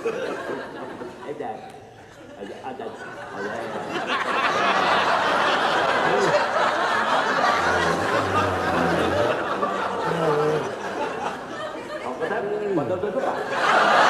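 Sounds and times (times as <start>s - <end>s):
studio audience laughing: 0.0s - 1.2s, 2.4s - 14.0s.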